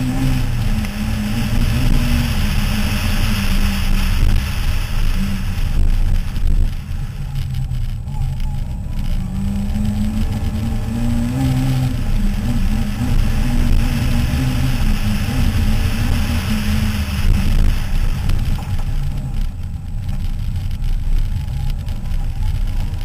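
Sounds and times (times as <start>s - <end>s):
rally car engine running hard: 0.0s - 23.0s
tyre and stone noise on gravel: 0.0s - 23.0s.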